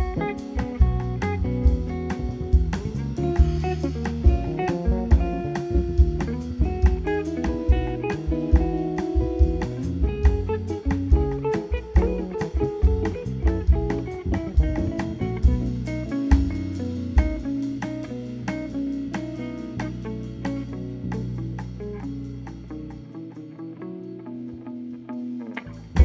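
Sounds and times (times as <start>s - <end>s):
double bass: 0.0s - 23.0s
drum kit with cymbals: 0.0s - 23.0s, 25.6s - 26.0s
guitar: 0.0s - 26.0s.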